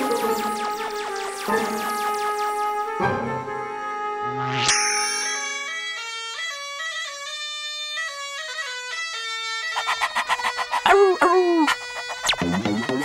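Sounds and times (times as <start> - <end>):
bagpipe melody over drone: 0.0 - 12.2.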